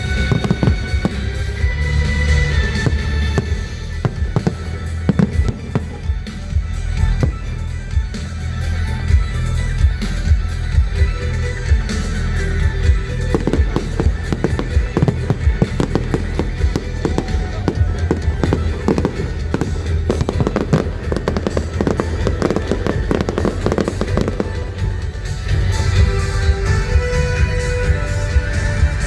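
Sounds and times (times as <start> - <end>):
fireworks bangs: 0.0 - 9.4, 11.9 - 27.2.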